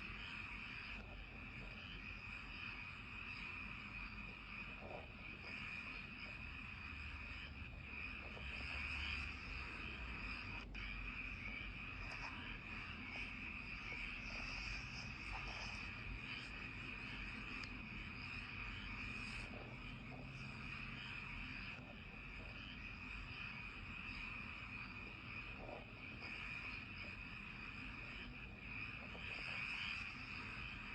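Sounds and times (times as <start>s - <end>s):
insects and frogs calling: 0.0s - 30.9s.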